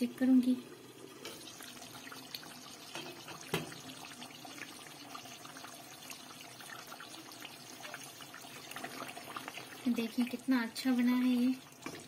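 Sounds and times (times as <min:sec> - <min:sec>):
gravy bubbling in a pot: 0:00.0 - 0:12.0.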